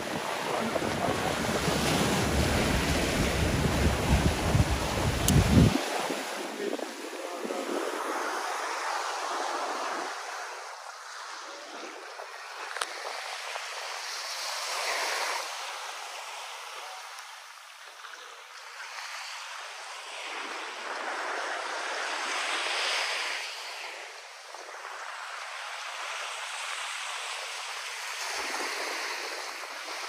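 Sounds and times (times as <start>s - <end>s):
surf washing onto sandy beach: 0.0s - 30.0s.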